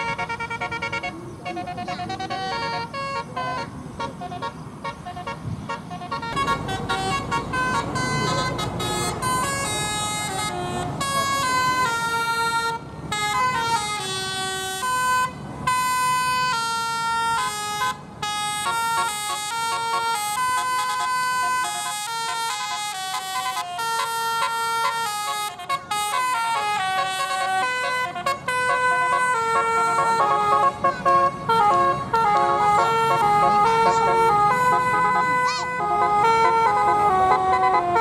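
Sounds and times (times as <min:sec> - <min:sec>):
bus horn playing melody: 0:00.0 - 0:38.0.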